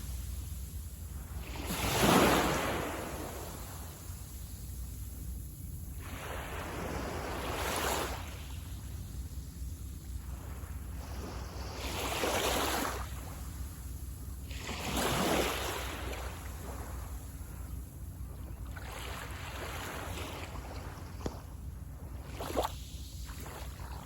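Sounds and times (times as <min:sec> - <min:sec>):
small waves washing onto beach: 0:00.0 - 0:04.5, 0:05.9 - 0:09.2, 0:09.9 - 0:17.8, 0:18.7 - 0:24.0.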